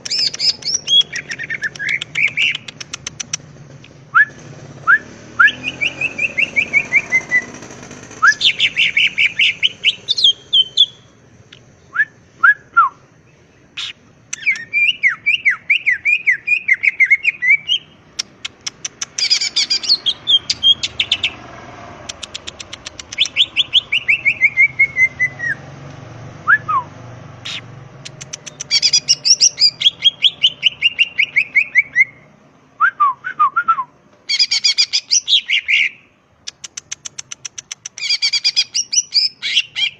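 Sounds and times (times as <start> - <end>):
bird singing rapid chirps: 0.0 - 11.2, 11.8 - 25.8, 26.4 - 32.3, 34.3 - 39.9.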